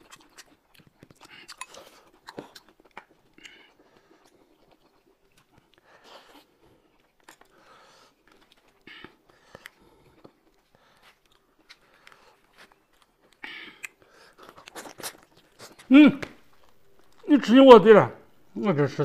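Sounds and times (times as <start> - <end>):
chewing: 0.0 - 17.3.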